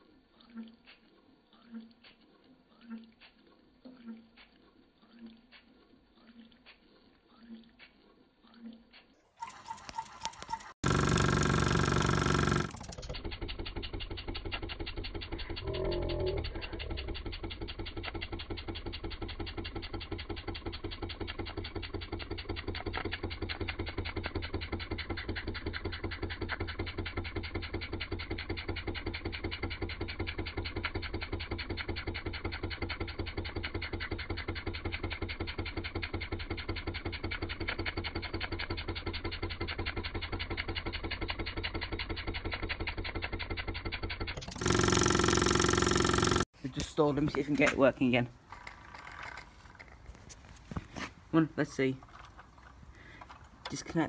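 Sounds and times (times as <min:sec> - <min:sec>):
model steam engine running: 0:09.4 - 0:50.1, 0:50.8 - 0:54.0.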